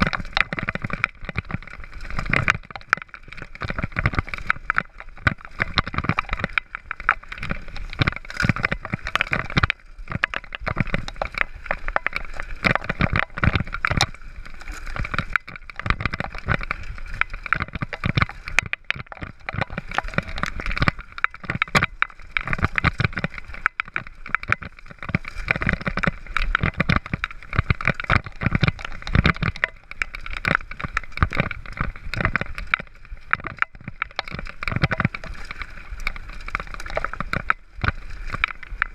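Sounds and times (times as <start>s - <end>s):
mountain bike rattling over dirt: 0.0s - 38.9s.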